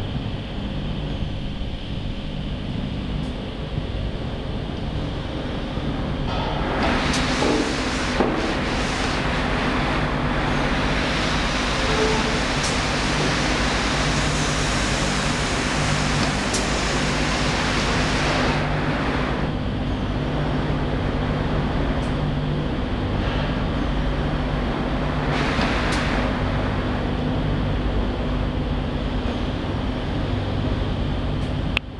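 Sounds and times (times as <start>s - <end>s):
printing machine humming: 4.0s - 31.7s.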